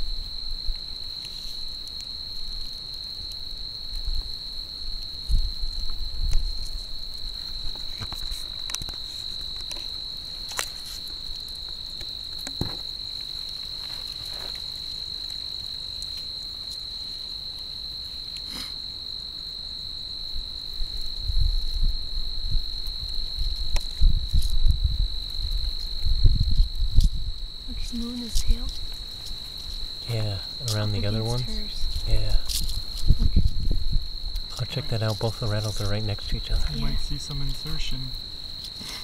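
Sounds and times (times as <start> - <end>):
cricket trilling: 0.0 - 39.0.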